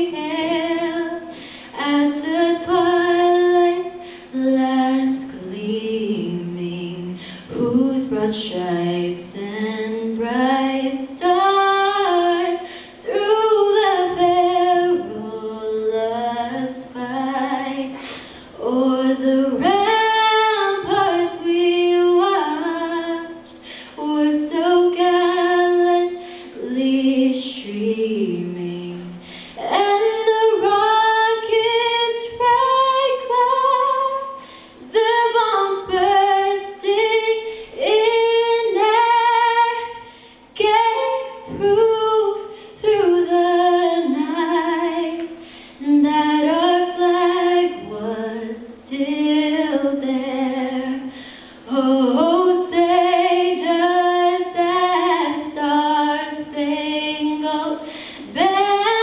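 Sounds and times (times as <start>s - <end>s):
woman singing unaccompanied: 0.0s - 18.0s, 18.6s - 59.0s.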